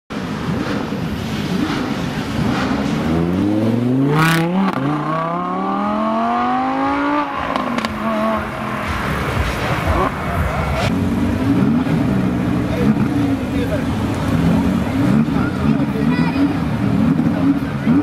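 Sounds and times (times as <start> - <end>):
car engine accelerating hard: 0.2 - 18.0.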